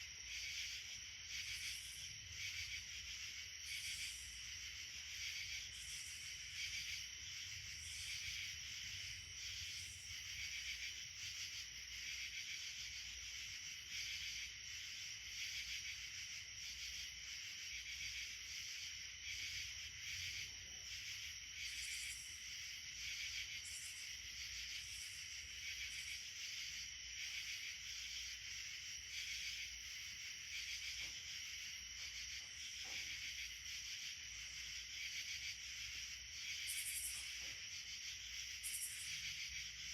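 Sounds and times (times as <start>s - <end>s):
higher pulsing insect call: 0.0s - 39.9s
insects trilling: 0.0s - 39.9s.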